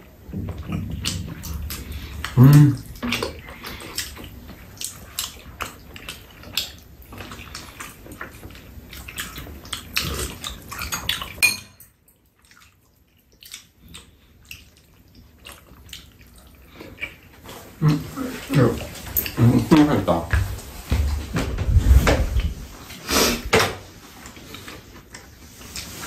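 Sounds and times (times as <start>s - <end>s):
wet eating and slurping: 0.1s - 11.4s, 12.2s - 20.9s, 21.6s - 26.0s.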